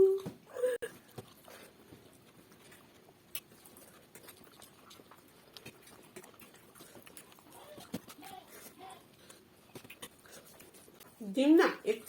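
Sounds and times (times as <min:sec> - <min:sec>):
faint eating noises: 0:00.0 - 0:12.0.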